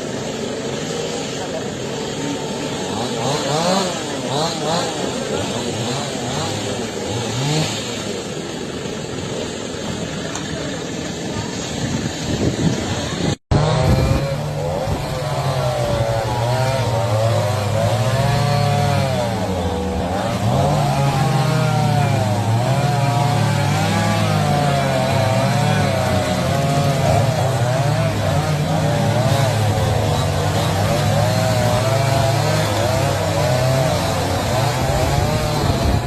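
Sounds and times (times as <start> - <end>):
chainsaw revving: 0.0 - 36.0
traffic: 0.0 - 36.0.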